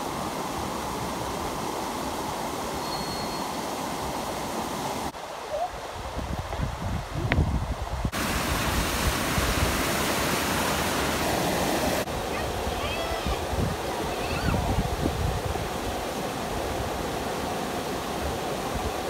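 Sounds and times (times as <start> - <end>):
river water rushing over rocks: 0.0 - 6.4, 7.7 - 19.0.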